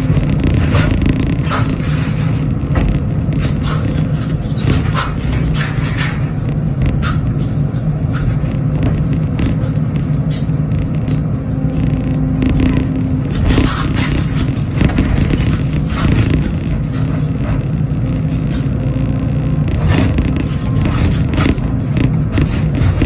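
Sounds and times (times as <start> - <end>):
broken concrete knocking and scraping: 0.0 - 18.8, 19.6 - 23.0
excavator diesel engine running: 0.0 - 23.0.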